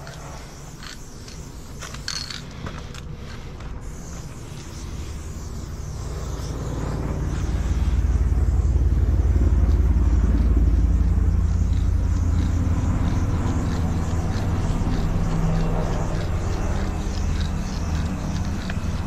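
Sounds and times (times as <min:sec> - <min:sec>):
engine rumbling low: 0:00.0 - 0:19.0
spray paint can hissing: 0:00.0 - 0:19.0.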